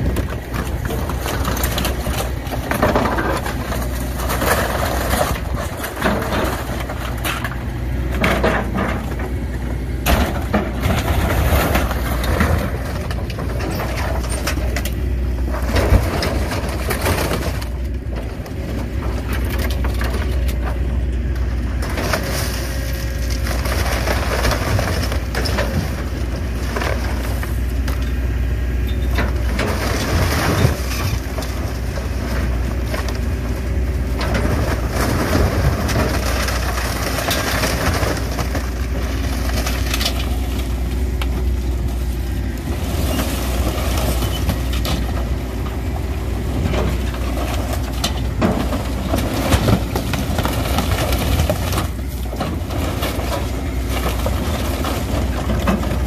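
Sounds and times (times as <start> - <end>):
excavator diesel engine drone: 0.0 - 56.0
wood crunching and splintering: 0.0 - 56.0.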